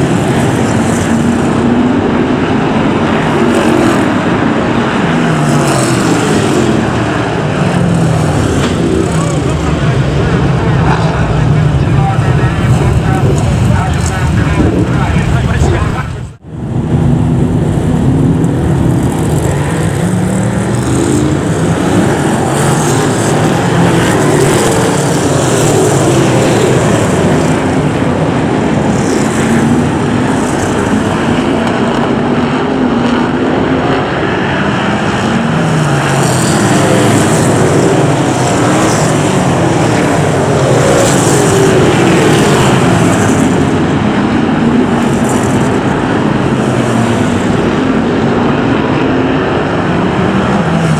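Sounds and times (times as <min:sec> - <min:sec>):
race car engines racing: 0:00.0 - 0:50.9.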